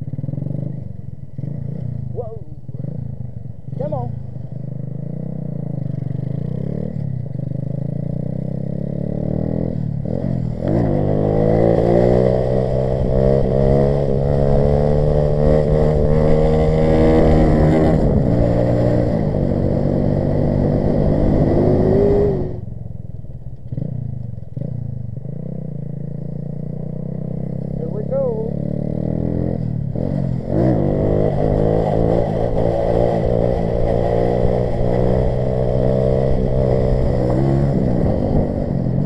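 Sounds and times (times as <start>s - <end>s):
small motorcycle engine revving: 0.0s - 22.8s, 23.6s - 39.0s.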